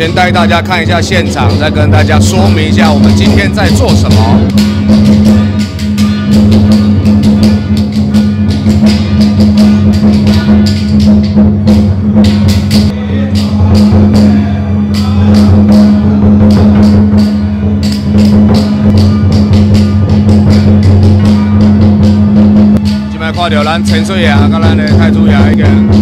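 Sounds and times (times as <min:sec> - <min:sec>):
cymbals: 0:00.0 - 0:26.0
drums beating: 0:00.0 - 0:26.0.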